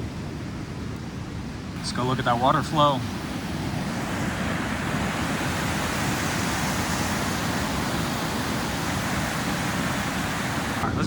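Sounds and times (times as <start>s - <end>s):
river water rushing: 1.8s - 10.8s.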